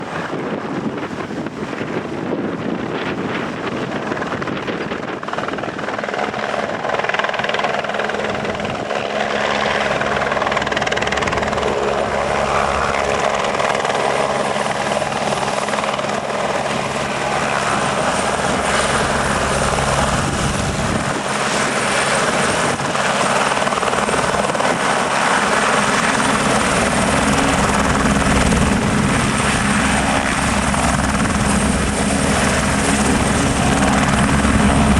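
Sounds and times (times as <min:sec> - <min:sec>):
helicopter turbine and rotor: 0:00.0 - 0:34.9
high turbine whine: 0:03.1 - 0:34.9.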